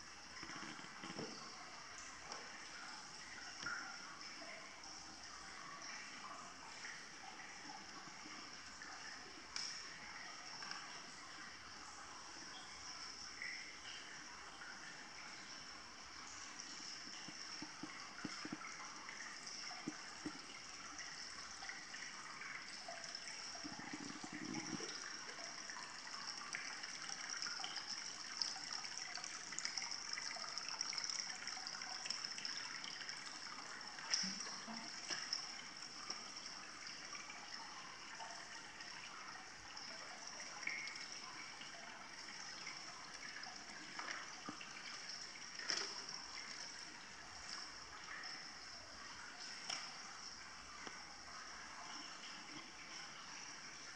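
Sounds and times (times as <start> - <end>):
water trickling and flowing: 0.0 - 53.9.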